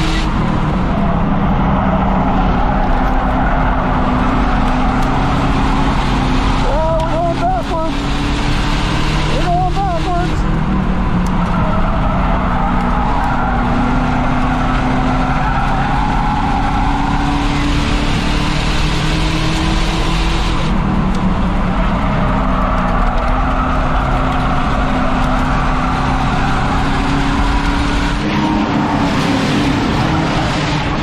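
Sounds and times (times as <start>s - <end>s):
race car engine: 0.0s - 31.0s.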